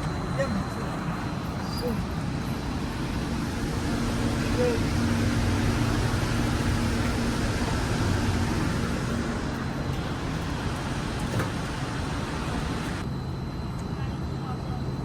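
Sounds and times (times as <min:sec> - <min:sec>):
faint hum: 0:00.0 - 0:15.0
train rumble and hiss: 0:00.0 - 0:15.0.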